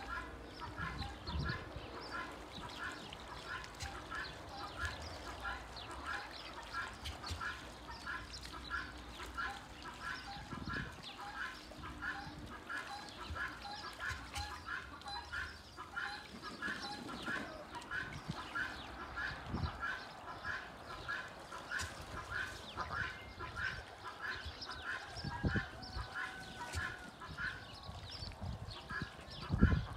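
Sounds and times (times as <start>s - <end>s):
ducks quacking: 0.0s - 28.0s, 28.7s - 29.9s
water splashing: 0.0s - 29.3s.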